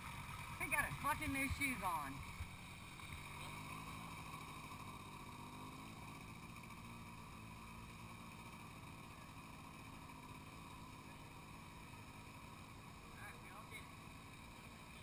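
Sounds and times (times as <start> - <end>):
faint atv engine running: 0.0 - 15.0.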